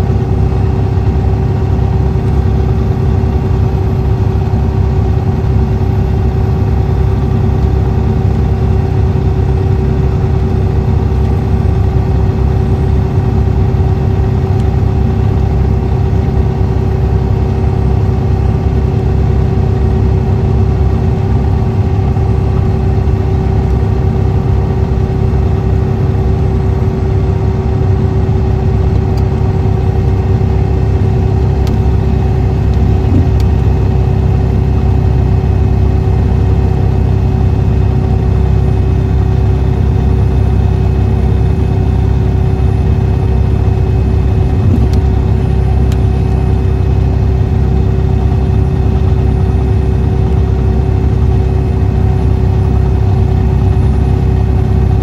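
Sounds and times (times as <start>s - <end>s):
diesel engine drone: 0.0s - 55.0s
steady whine: 0.0s - 55.0s.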